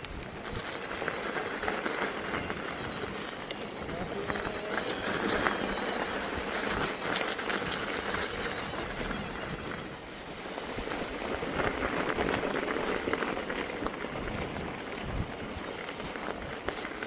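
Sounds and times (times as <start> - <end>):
bike rattling over bumps: 0.0 - 17.0
tyres crunching on snow: 0.3 - 17.0.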